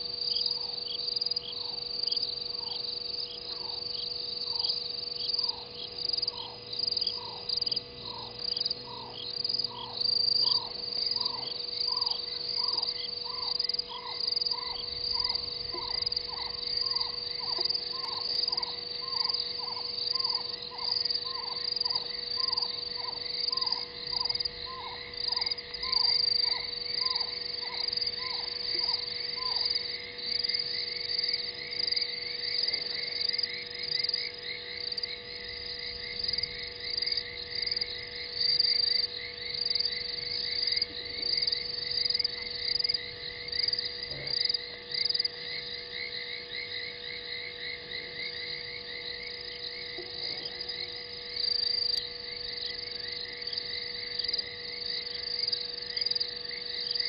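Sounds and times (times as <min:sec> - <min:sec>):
crickets trilling: 0:00.0 - 0:57.0
faint insect chirping: 0:00.0 - 0:57.0
frog call: 0:00.0 - 0:57.0.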